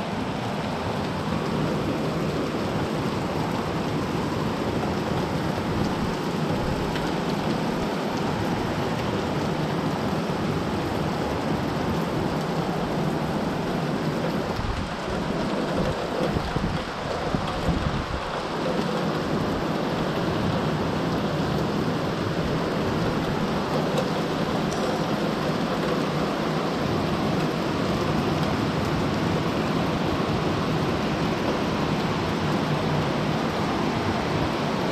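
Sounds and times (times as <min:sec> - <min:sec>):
heavy rain on foliage: 0:00.0 - 0:34.9.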